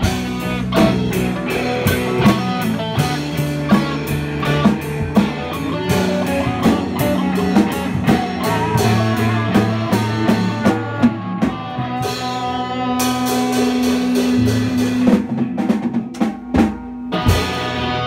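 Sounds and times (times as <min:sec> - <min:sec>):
drum kit playing: 0:00.0 - 0:18.0
electric guitars holding chords: 0:00.0 - 0:18.0.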